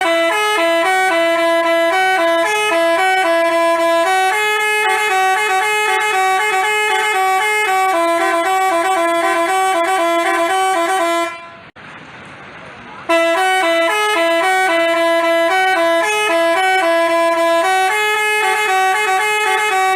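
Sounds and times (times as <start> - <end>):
multi-tone bus horn playing a tune: 0.0 - 11.8, 13.1 - 19.9.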